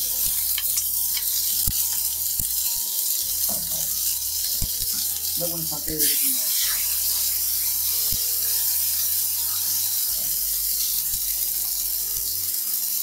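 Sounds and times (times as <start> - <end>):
fish and clams sizzling in pan: 0.0 - 13.0.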